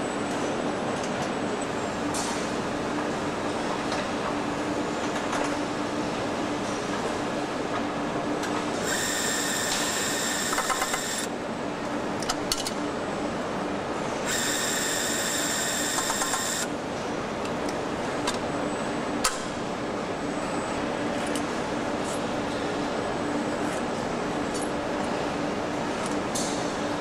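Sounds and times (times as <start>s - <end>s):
machinery hum and rumble: 0.0s - 27.0s.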